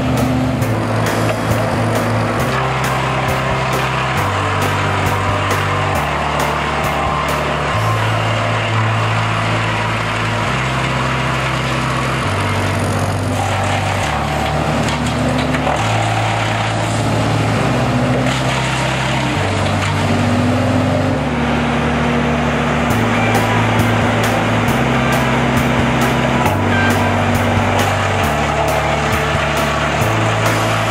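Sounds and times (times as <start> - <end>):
background music with bass line: 0.0 - 30.9
wood chipper chipping branches: 0.0 - 30.9.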